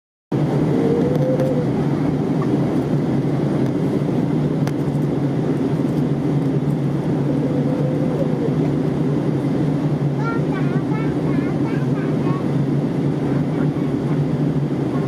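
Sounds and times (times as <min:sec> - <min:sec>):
low engine rumble: 0:00.3 - 0:15.0
faint whine: 0:00.4 - 0:15.0.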